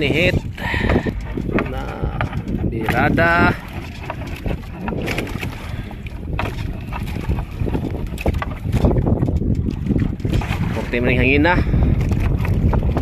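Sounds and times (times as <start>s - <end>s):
fishing net rustling and knocking: 0.0s - 13.0s
wind buffeting microphone: 0.0s - 13.0s.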